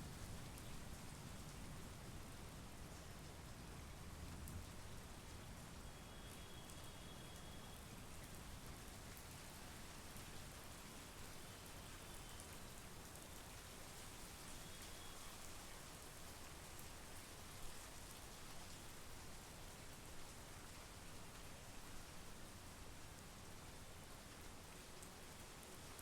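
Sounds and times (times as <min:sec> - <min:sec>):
faint steady rain: 0:00.0 - 0:26.0.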